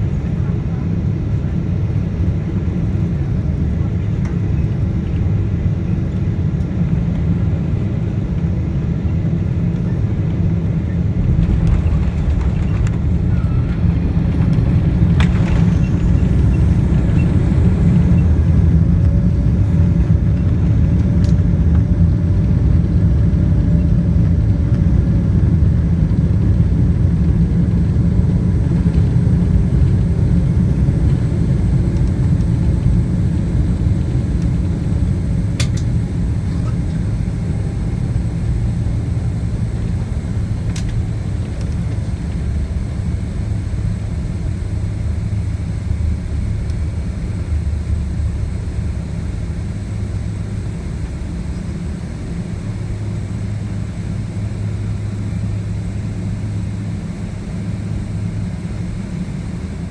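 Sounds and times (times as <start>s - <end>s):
engine and airflow rumble: 0.0s - 59.9s
faint steady whine: 0.0s - 59.9s
wheels rumbling on runway: 0.0s - 59.9s.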